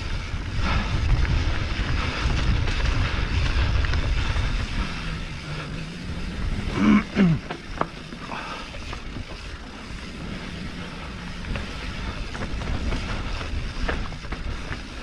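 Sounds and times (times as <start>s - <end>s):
bike tyres rolling on dirt: 0.0s - 15.0s
wind buffeting microphone: 0.0s - 15.0s.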